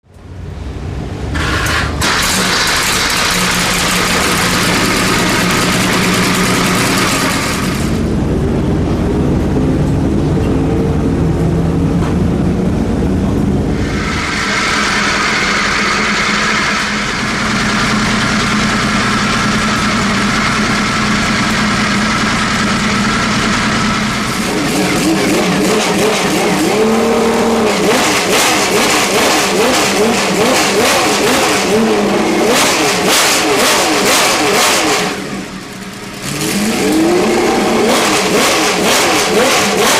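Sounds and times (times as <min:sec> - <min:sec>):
racing engine idling: 0:00.1 - 0:39.8.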